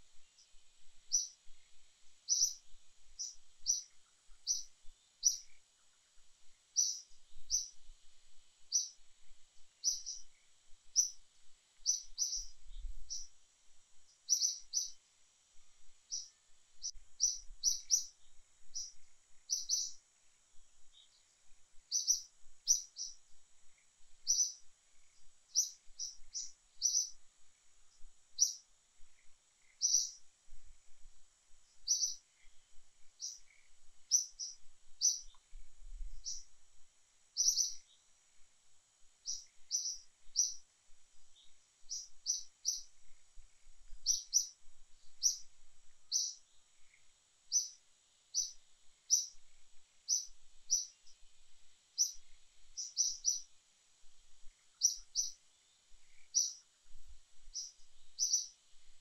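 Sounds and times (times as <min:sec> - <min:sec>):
small bird chirping: 0:00.0 - 0:36.6, 0:37.2 - 0:59.0
faint high hiss: 0:00.0 - 0:59.0.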